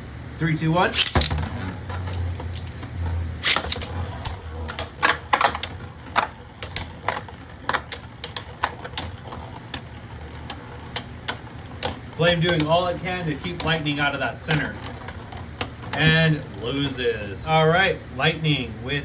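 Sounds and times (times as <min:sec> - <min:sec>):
spinning tops whirring: 0:00.5 - 0:17.7
spinning tops clacking: 0:00.7 - 0:17.5.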